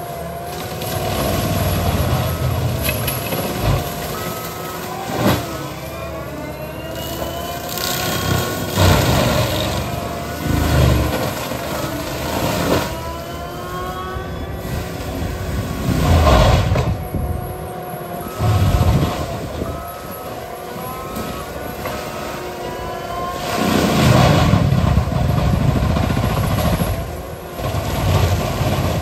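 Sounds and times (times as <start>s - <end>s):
diesel engine running hard: 0.0s - 29.0s
mulcher grinding brush: 0.0s - 29.0s
mulcher head whine: 0.0s - 29.0s.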